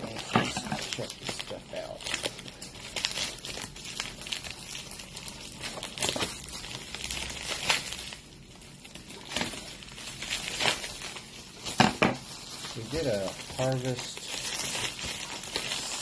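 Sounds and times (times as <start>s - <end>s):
padded envelope tearing and crinkling: 0.0s - 16.0s.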